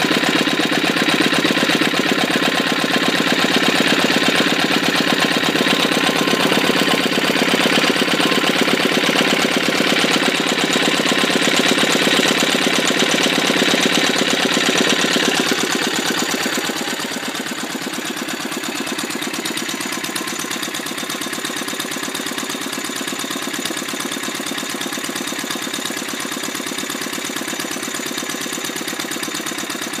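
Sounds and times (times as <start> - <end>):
stationary engine running slowly: 0.0 - 30.0.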